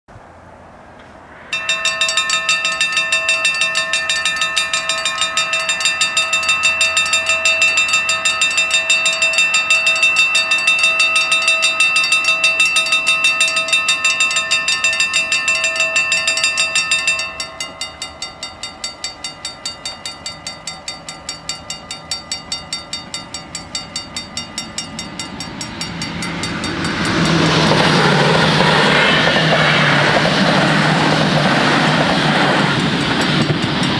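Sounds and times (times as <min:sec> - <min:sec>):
train passing: 0:00.1 - 0:33.9
level crossing bells ringing: 0:01.5 - 0:33.9.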